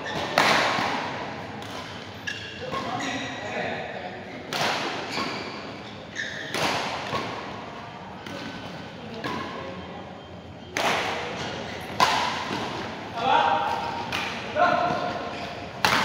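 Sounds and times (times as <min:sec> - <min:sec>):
rackets hitting shuttlecock: 0:00.0 - 0:03.0, 0:04.5 - 0:09.8, 0:10.7 - 0:16.0.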